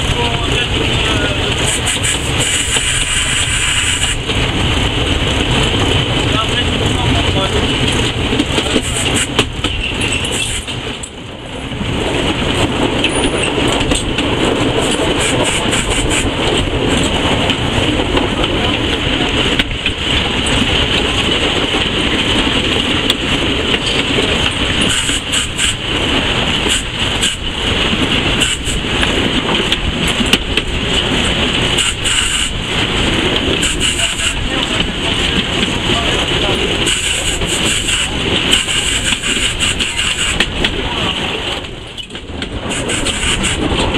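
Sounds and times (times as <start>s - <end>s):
steam locomotive running noise: 0.0s - 43.9s.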